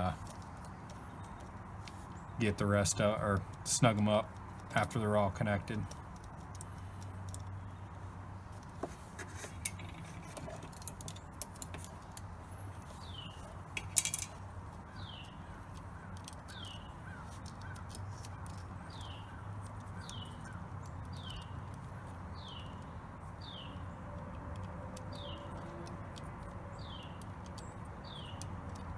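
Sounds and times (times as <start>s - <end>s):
light clicks of metal terminals: 0.0s - 28.9s.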